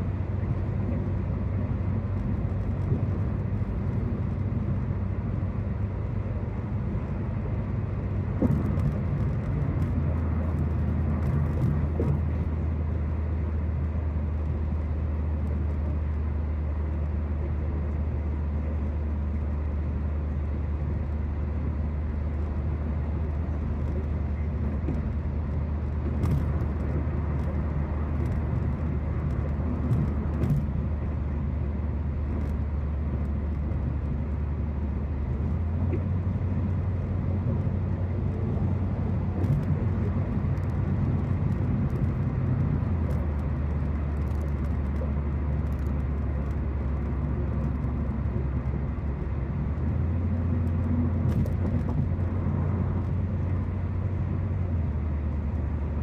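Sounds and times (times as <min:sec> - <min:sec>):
car interior road noise: 0:00.0 - 0:56.0.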